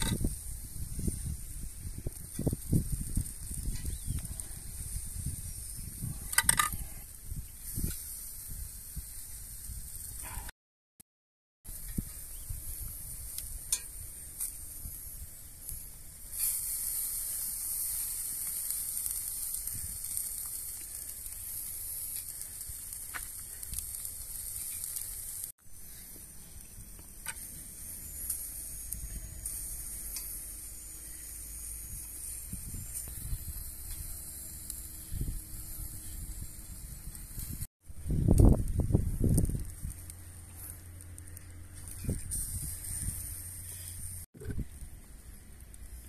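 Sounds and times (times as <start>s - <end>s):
meat sizzling over charcoal: 0.0s - 10.3s, 11.7s - 46.0s
coals popping: 0.0s - 10.4s, 11.7s - 46.0s.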